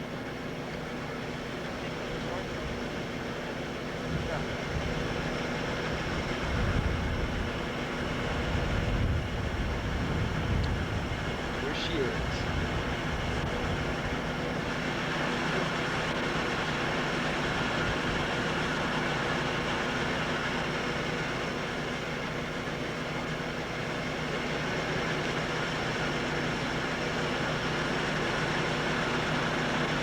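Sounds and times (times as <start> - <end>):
pump engines droning: 0.0 - 30.0.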